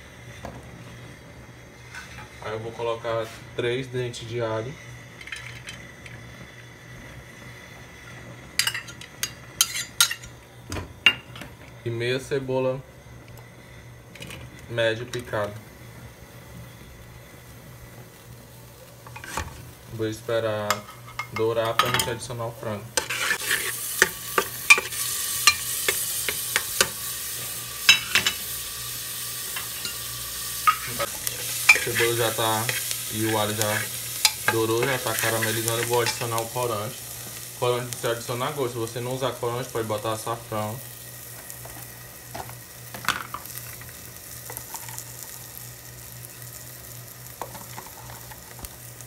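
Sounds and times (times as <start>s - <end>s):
onion and garlic sizzling: 0.0s - 49.0s.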